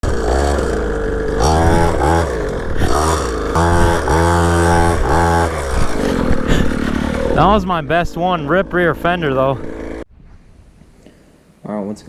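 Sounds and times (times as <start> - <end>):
pit bike engine revving: 0.0 - 10.1.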